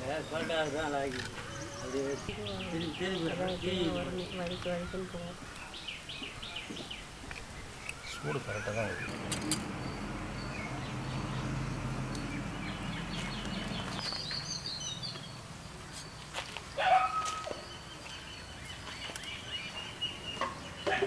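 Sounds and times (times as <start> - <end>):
birds chirping and calling: 0.0 - 21.0.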